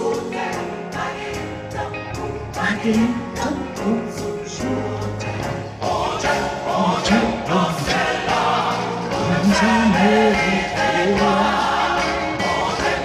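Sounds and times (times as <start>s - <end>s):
gospel choir singing: 0.0s - 13.0s
keyboards: 0.0s - 13.0s.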